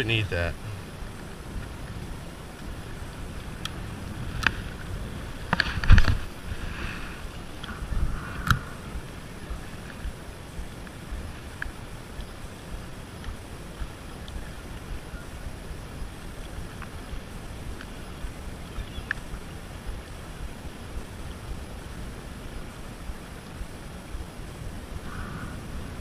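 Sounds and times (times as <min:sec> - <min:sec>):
water noise: 0:00.0 - 0:26.0
wind: 0:00.0 - 0:26.0.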